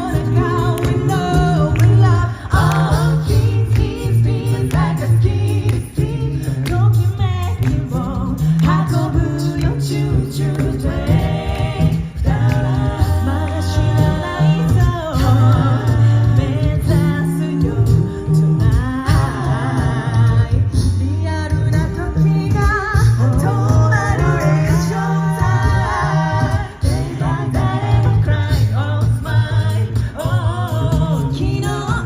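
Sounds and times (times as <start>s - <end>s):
group singing in harmony: 0.0s - 32.0s
sung bass line: 0.0s - 32.0s
vocal percussion: 0.0s - 32.0s.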